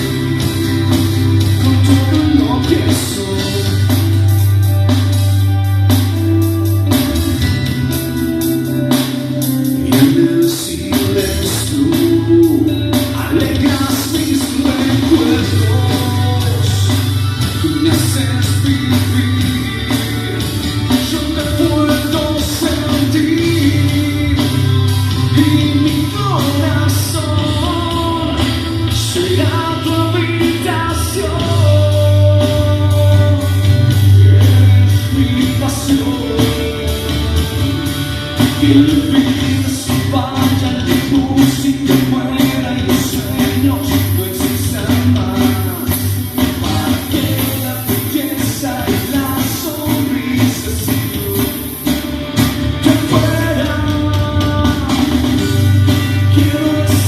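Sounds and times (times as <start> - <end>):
electric guitar: 0.0 - 57.0
heavy sustained bass line: 0.0 - 57.0
live rock band playing: 0.0 - 57.0.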